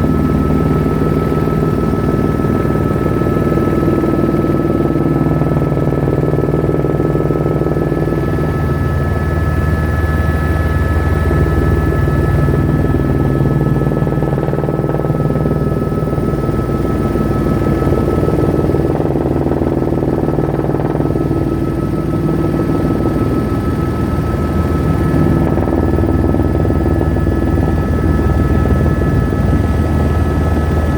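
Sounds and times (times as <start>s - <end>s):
helicopter cabin drone: 0.0s - 30.9s.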